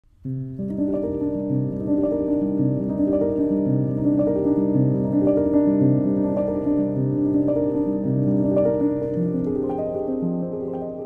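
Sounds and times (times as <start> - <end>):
keyboard melody of held notes: 0.2 - 11.0.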